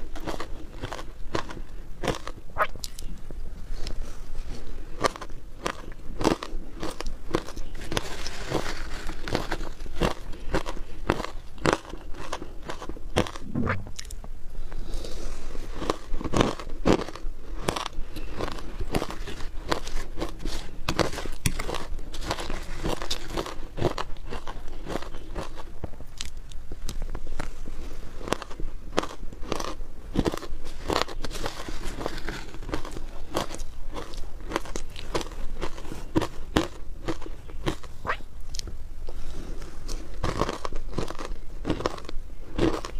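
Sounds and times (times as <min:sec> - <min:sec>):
ice being chewed: 0:00.0 - 0:03.2, 0:04.9 - 0:14.2, 0:15.6 - 0:27.6, 0:28.2 - 0:42.9.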